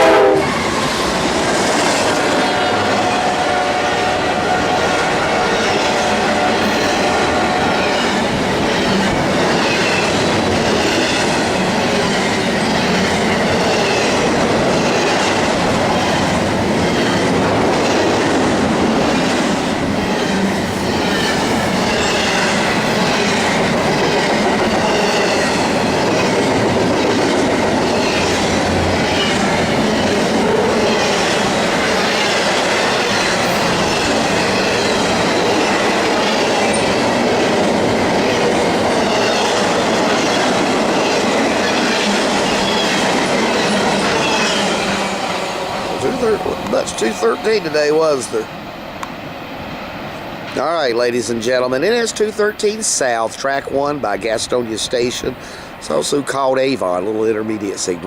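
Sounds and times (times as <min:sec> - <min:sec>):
train wheels rushing on rail: 0:00.0 - 0:58.0.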